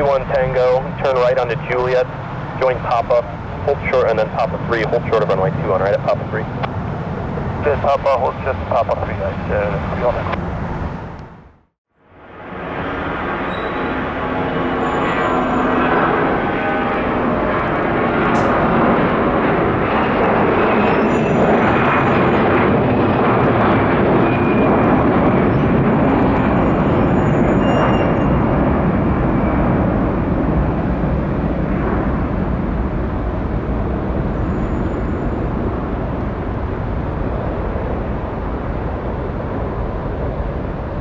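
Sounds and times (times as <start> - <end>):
jet engines roaring on takeoff: 0.0 - 11.5, 12.1 - 41.0.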